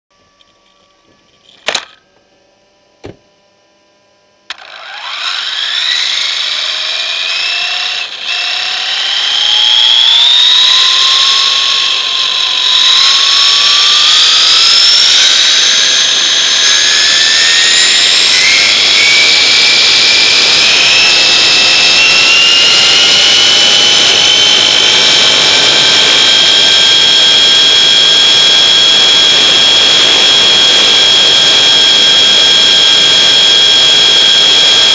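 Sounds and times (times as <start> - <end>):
electric motor whining: 0.2 - 34.9
wind and tyres on pavement: 4.5 - 34.9.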